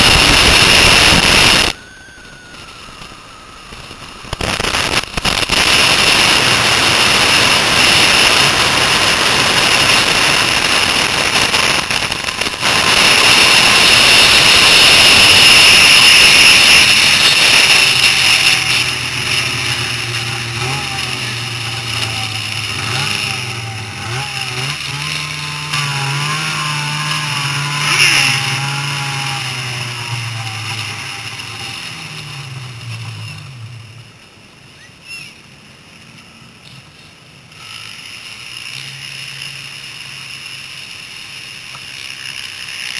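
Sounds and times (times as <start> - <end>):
snowmobile engine at speed: 0.0 - 34.5, 37.5 - 42.9.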